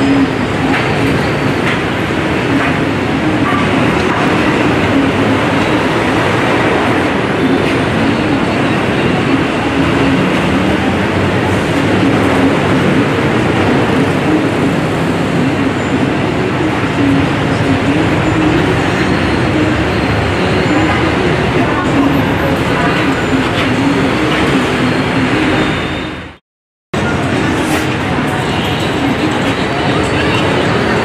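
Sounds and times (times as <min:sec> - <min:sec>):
street traffic rumble: 0:00.0 - 0:26.4, 0:27.0 - 0:31.0.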